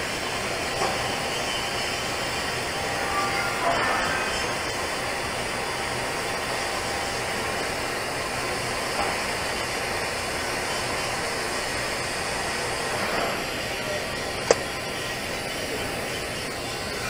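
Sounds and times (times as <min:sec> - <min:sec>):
welding arc hiss: 0:00.0 - 0:17.0.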